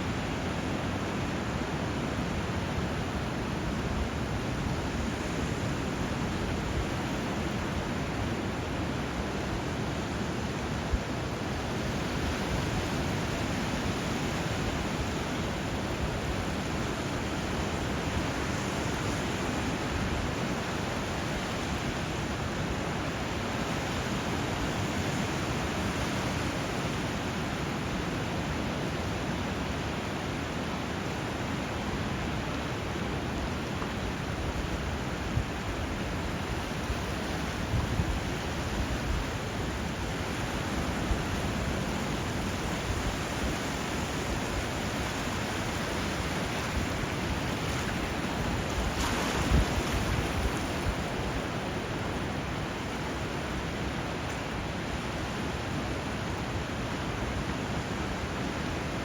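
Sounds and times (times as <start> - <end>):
river water and surf rushing: 0.0 - 59.0.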